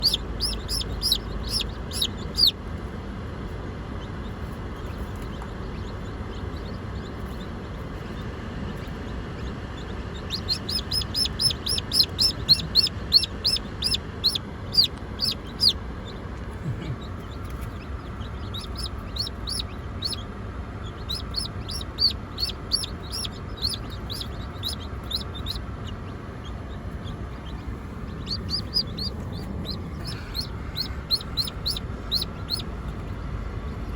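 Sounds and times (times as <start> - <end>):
chick peeping: 0.0 - 2.9, 4.0 - 33.9.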